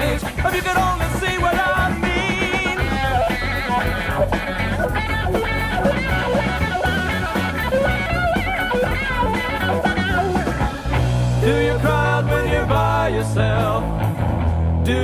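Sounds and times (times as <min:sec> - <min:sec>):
gospel band music: 0:00.0 - 0:15.0.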